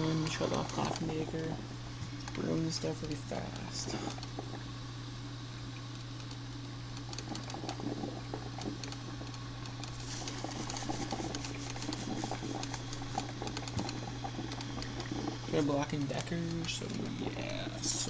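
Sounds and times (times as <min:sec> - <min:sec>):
coffee maker popping and sputtering: 0:00.0 - 0:04.8, 0:05.5 - 0:18.0
steady low hum: 0:00.0 - 0:18.0.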